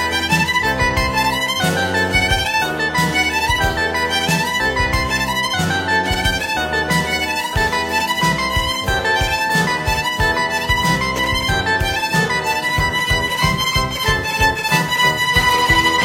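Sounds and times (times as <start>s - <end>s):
instrumental music with steady beat: 0.0s - 16.0s.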